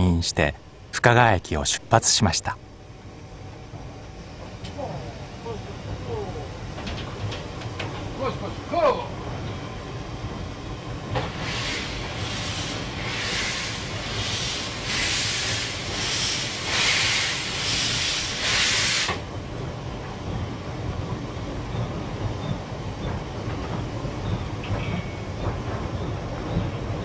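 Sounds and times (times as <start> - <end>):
low rumble of locomotive: 0.0 - 27.0
rhythmic bursts of steam hiss: 0.7 - 27.0.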